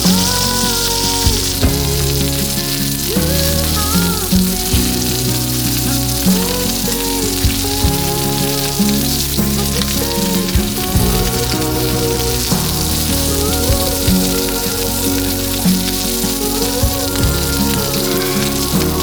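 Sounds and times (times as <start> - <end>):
background music with bass line: 0.0 - 19.0
meat sizzling on a grill: 0.0 - 19.0.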